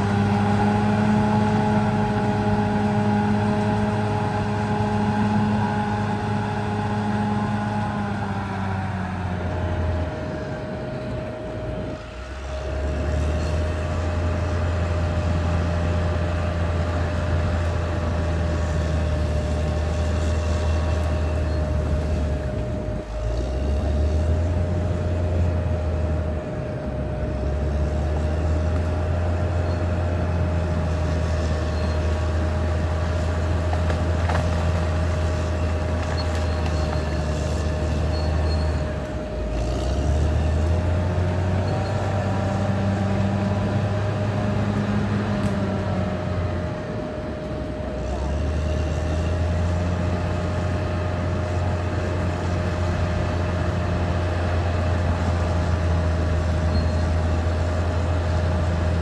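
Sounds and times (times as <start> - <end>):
bulldozer diesel engine droning: 0.0 - 59.0
constant engine whine: 0.0 - 59.0.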